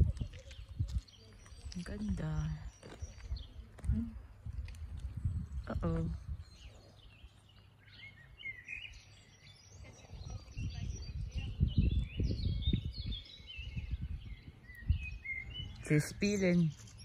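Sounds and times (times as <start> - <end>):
birds chirping and singing: 0.0 - 17.0.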